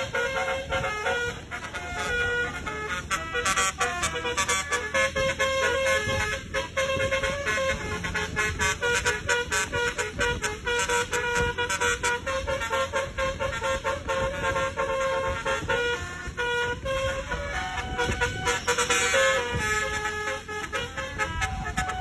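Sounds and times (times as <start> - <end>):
multi-tone air horn tune: 0.0 - 22.0.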